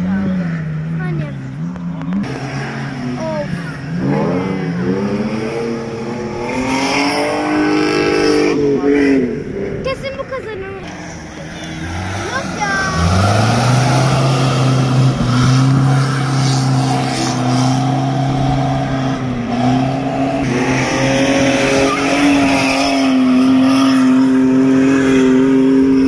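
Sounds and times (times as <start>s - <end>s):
off-road engines revving high: 0.0s - 26.0s.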